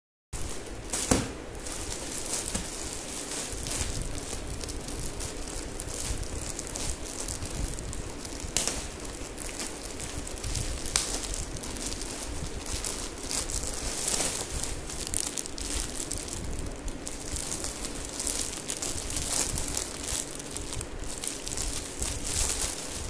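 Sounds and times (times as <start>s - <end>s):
plastic packet crinkling: 0.4s - 23.0s.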